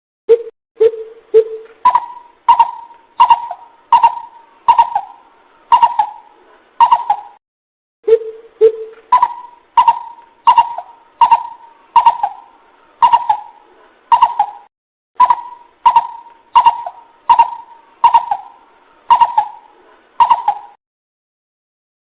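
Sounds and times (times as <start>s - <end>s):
bird hooting call: 0.8s - 7.4s, 8.1s - 20.8s.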